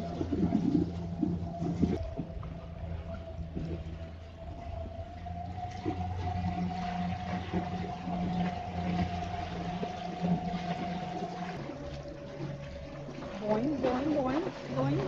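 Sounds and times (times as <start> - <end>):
electric motors whining: 0.0 - 15.0
water rushing along hull: 0.0 - 15.0.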